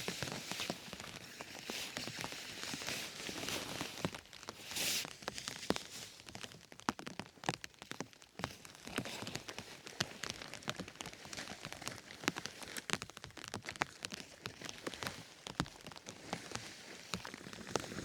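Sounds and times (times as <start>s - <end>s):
raindrops ticking on surface: 0.0s - 18.0s.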